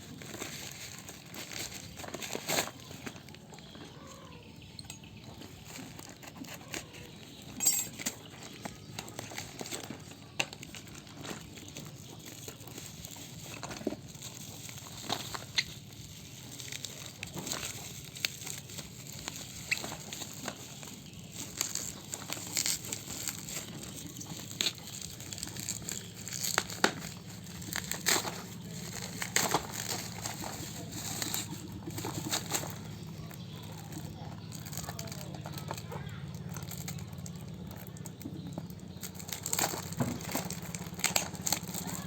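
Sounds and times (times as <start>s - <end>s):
packaging crinkling and rustling: 0.0s - 42.0s.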